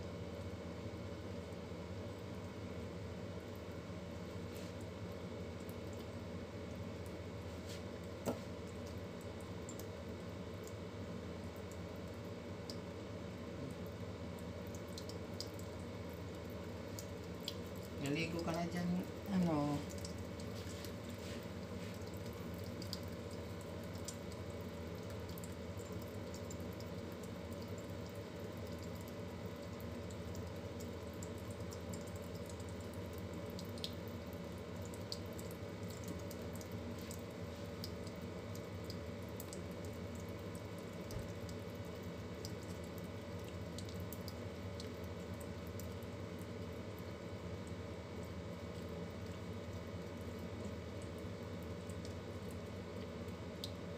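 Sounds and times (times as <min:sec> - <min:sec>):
water drips and splashes: 0:03.4 - 0:53.9.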